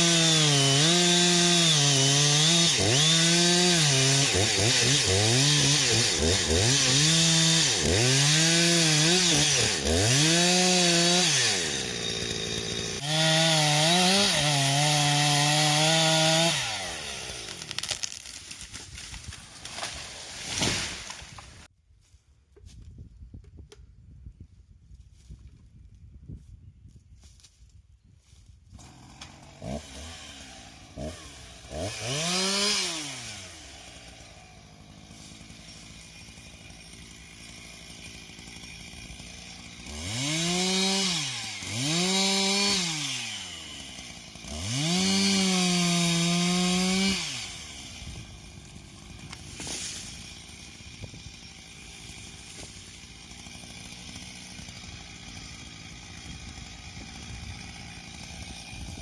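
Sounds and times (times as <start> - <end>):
chainsaw idling and revving: 0.0 - 21.7, 28.8 - 59.0.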